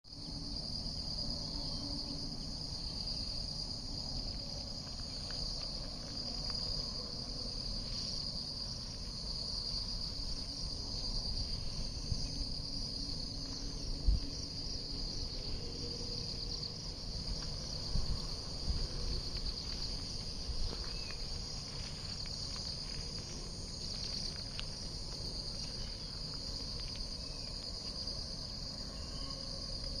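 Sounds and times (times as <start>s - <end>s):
high-pitched insect chorus: 0.1s - 30.0s.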